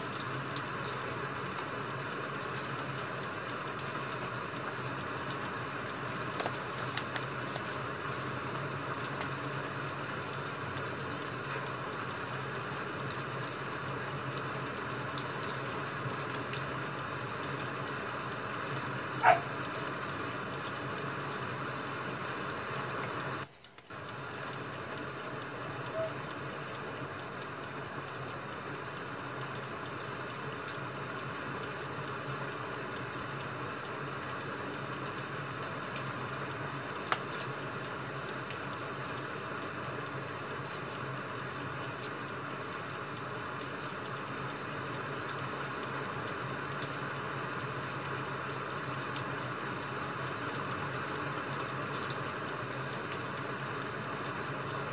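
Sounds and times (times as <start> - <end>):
falling rain hiss: 0.0 - 54.9.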